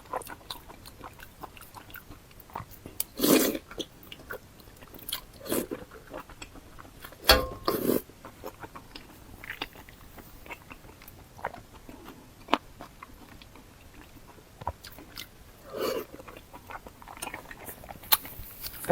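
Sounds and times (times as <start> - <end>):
biting and chewing cartilage: 0.0 - 18.8.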